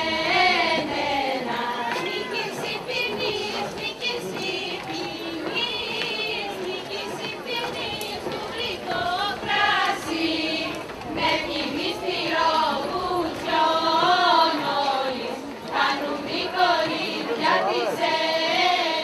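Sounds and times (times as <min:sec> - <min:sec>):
women singing in unison: 0:00.0 - 0:19.0.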